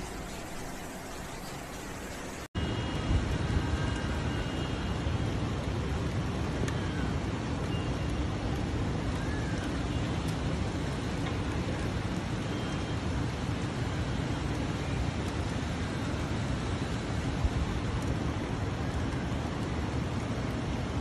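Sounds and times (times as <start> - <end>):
heavy rain and wind: 0.0 - 21.0.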